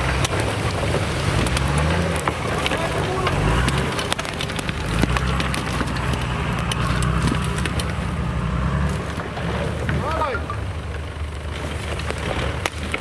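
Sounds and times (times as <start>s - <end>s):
car engine running: 0.0s - 13.0s
twigs snapping under tyres: 0.0s - 13.0s.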